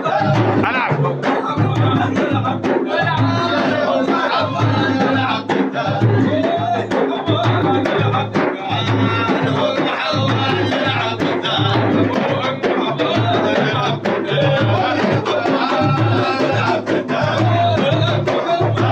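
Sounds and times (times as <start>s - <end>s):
drums beating steady rhythm: 0.0s - 18.9s
group singing: 0.0s - 18.9s.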